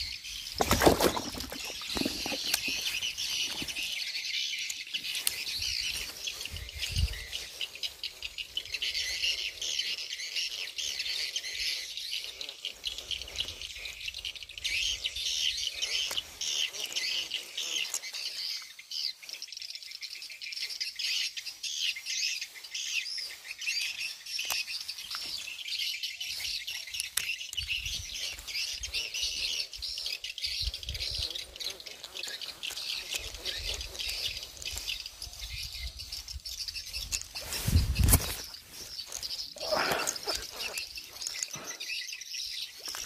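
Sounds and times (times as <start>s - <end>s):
birds chirping chorus: 0.0s - 43.0s.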